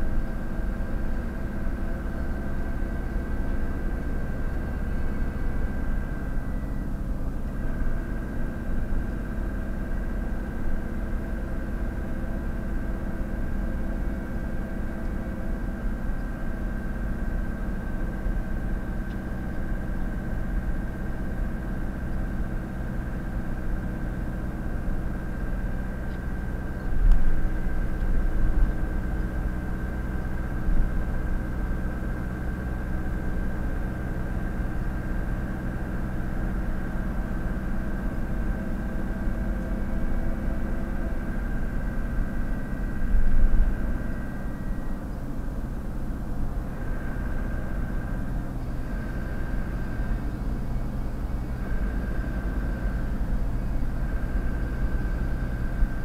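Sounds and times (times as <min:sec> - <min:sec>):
engine and tyre drone: 0:00.0 - 0:56.0.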